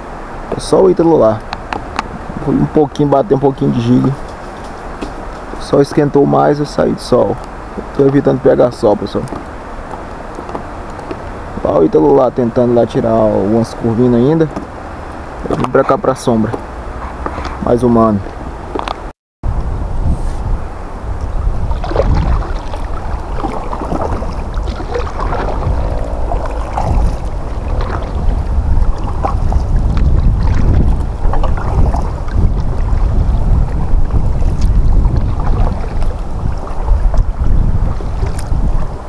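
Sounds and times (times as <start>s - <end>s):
river water splashing: 0.0s - 19.1s, 20.4s - 39.0s
wind buffeting microphone: 0.0s - 39.0s.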